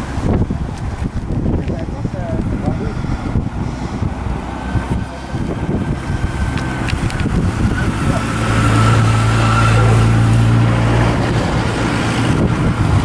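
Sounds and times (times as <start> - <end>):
vehicle engine passing: 0.0 - 13.0.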